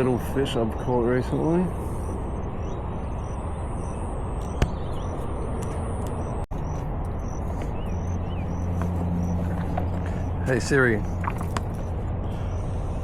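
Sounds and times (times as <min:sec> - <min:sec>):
outdoor rumble and hiss: 0:00.0 - 0:13.0.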